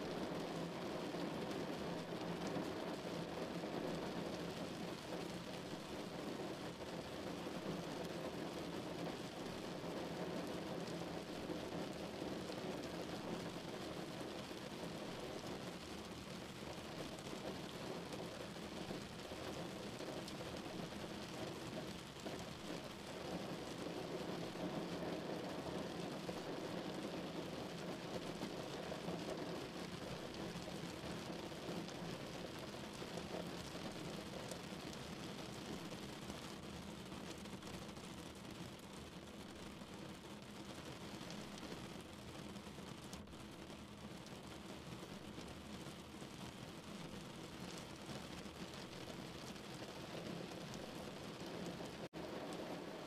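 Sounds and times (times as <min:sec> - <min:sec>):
rain on a car: 0:00.0 - 0:53.0.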